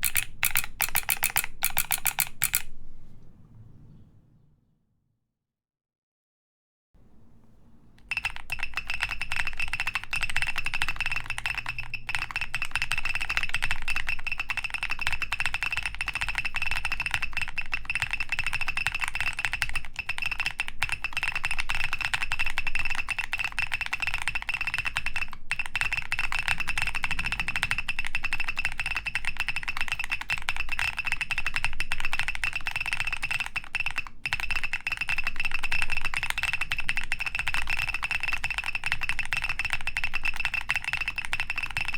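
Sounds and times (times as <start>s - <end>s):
mechanical keyboard typing: 0.0s - 2.7s, 8.0s - 41.9s.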